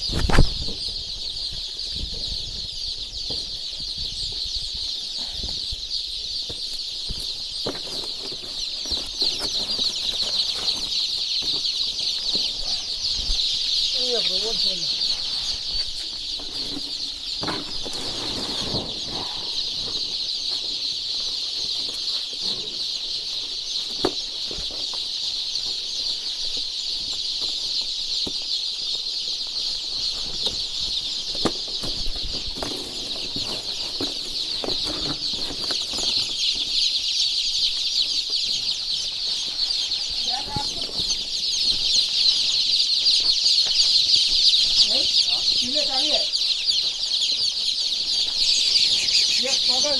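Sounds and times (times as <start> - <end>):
chickens calling: 0.0 - 49.9.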